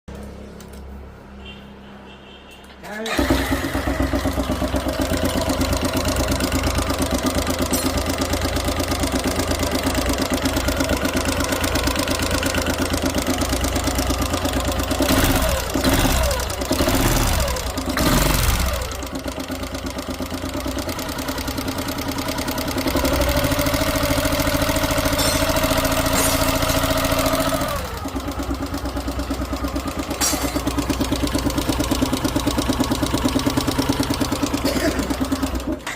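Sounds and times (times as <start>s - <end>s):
engine idling and revving: 3.1s - 35.9s.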